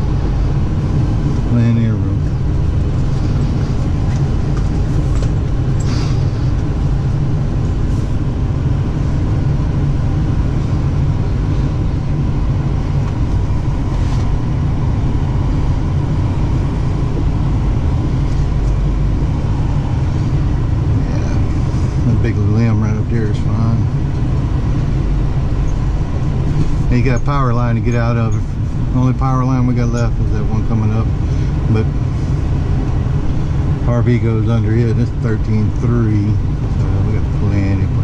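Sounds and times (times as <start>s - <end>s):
pickup truck engine rumble: 0.0s - 38.0s.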